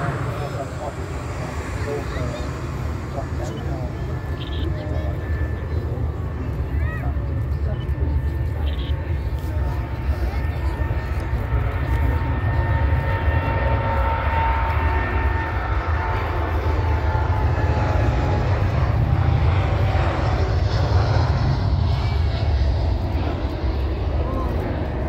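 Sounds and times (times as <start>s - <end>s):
jet engine high whine: 0.0s - 25.0s
jet engines rumbling: 0.0s - 25.0s.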